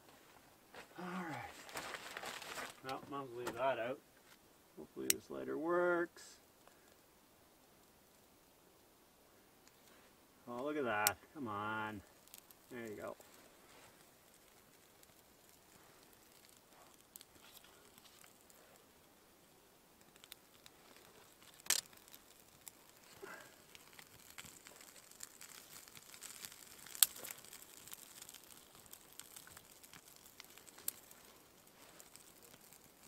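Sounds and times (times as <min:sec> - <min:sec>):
campfire crackling: 0:00.1 - 0:33.0
dry twigs rustling: 0:00.7 - 0:04.4, 0:09.6 - 0:33.0
fire snapping: 0:01.0 - 0:03.9, 0:04.9 - 0:08.9, 0:09.6 - 0:33.0.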